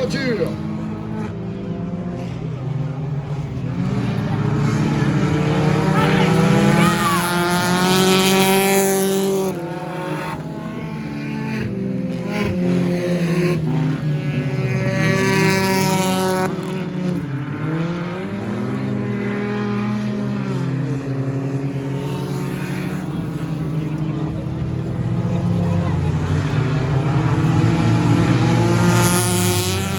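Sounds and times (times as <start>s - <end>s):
racing car engines passing: 0.0s - 29.9s.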